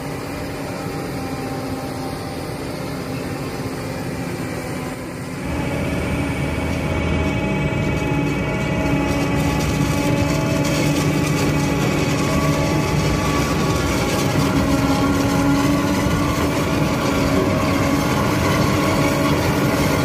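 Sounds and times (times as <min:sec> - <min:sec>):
tractor engine: 0:00.0 - 0:20.0.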